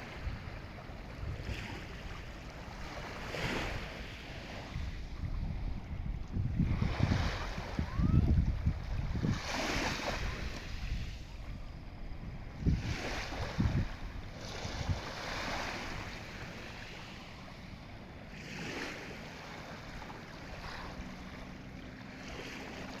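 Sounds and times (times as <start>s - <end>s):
sea waves washing: 0.0s - 23.0s.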